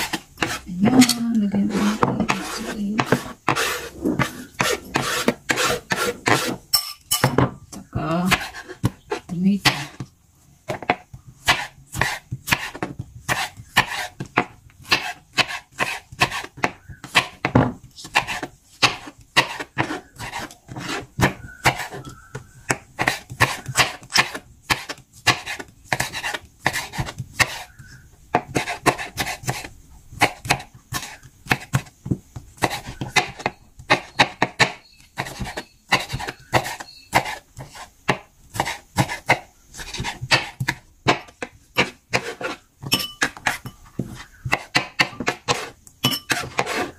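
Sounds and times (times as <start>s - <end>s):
knife chopping on wooden board: 0.0s - 6.6s, 10.7s - 46.9s.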